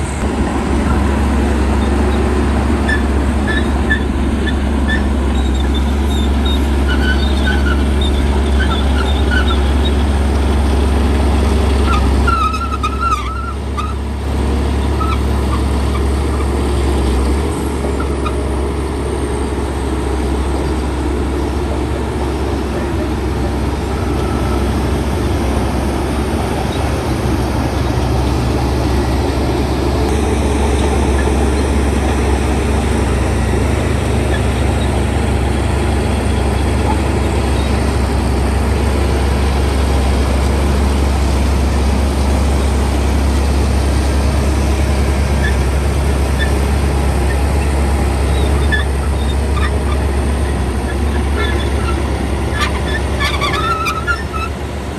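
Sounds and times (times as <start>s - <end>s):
heavy diesel machinery engine drone: 0.0s - 54.9s.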